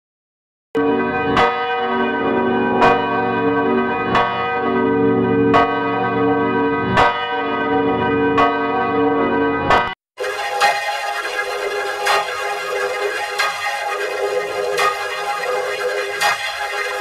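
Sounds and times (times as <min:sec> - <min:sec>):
church bell tolling: 0:00.8 - 0:17.0.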